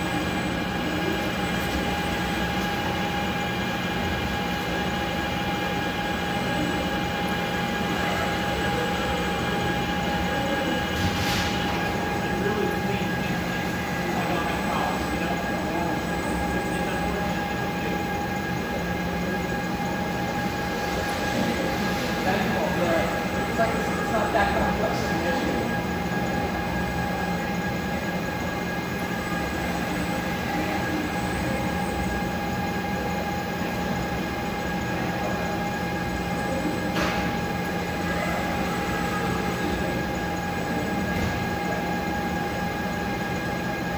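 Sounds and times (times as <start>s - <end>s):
printing machinery whine and hum: 0.0s - 43.9s.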